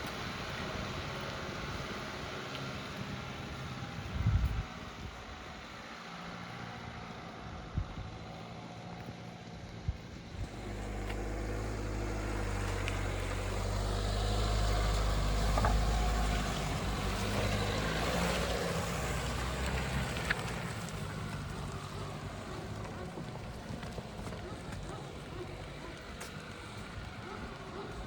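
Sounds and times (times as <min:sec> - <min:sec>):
diesel engine running: 0:00.0 - 0:28.0
tyre and ground noise: 0:00.0 - 0:28.0.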